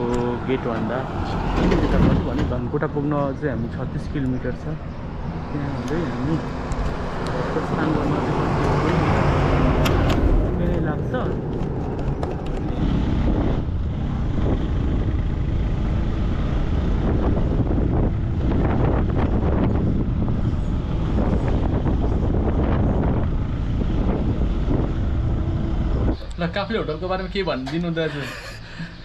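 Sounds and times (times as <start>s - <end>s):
wind rumble on microphone: 0.0s - 26.3s.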